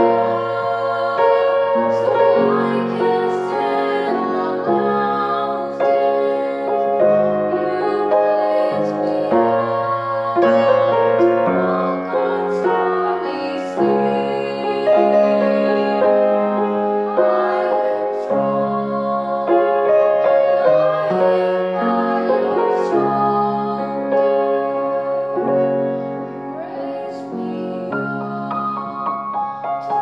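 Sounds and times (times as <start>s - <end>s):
woman singing: 0.0s - 7.0s, 7.6s - 19.9s, 20.6s - 25.5s, 26.6s - 29.2s
grand piano chords: 0.0s - 30.0s.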